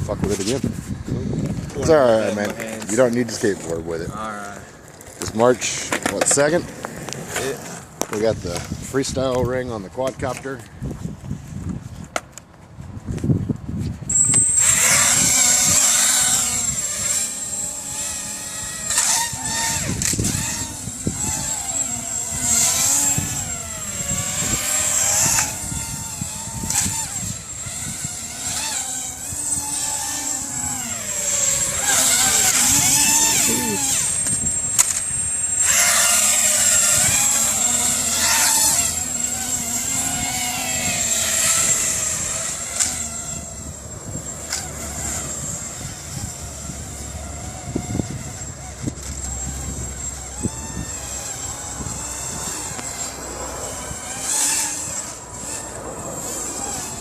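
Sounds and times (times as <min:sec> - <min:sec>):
quadcopter motors whining: 0:00.0 - 0:57.0.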